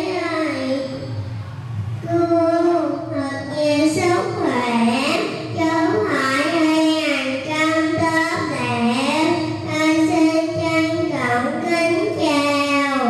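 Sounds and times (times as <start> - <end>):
girl singing into a microphone: 2.0 - 13.0.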